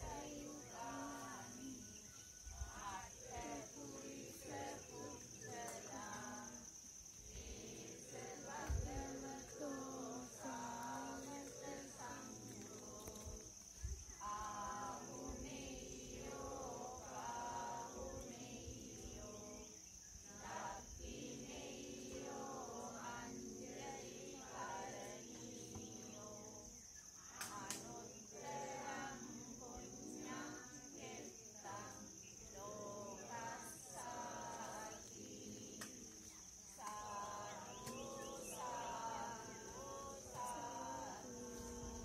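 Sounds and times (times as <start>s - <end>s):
high insect drone: 0.0s - 42.0s.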